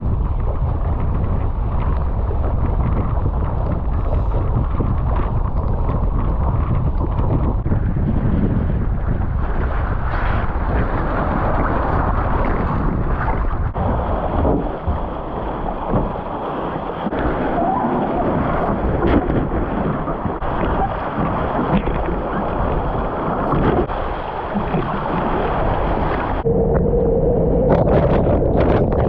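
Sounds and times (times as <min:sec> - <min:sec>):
rushing water: 0:00.0 - 0:29.0
wind buffeting microphone: 0:00.0 - 0:29.0.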